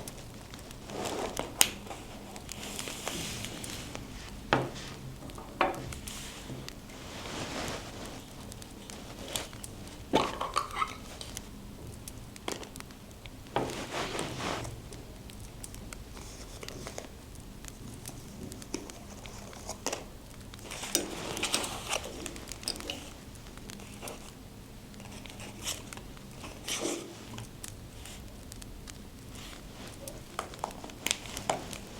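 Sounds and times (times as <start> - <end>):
paper rustling and crinkling: 0.0 - 11.6, 13.5 - 17.2, 17.8 - 28.3, 29.2 - 31.9.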